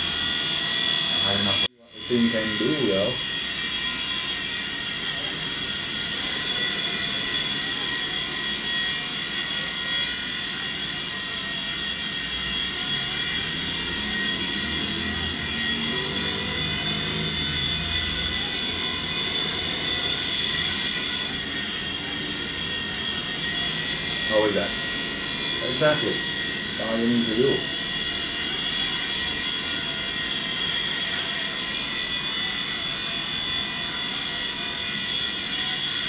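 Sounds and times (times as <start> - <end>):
toy helicopter rotor whine: 0.0 - 36.0.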